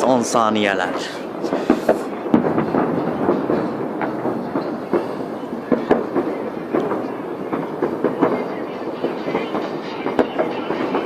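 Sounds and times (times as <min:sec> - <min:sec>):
fireworks banging and crackling: 0:00.0 - 0:11.0
loud firework bangs: 0:00.0 - 0:11.0.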